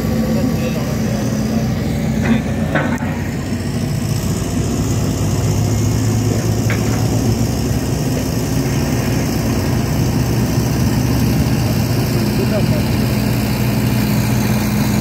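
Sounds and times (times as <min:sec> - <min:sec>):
heavy diesel engines droning: 0:00.0 - 0:15.0.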